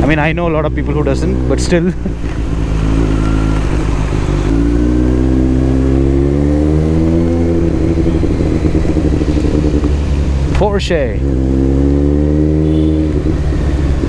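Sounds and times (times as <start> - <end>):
motorcycle engine accelerating: 0.0 - 14.0
wind and road noise: 0.0 - 14.0.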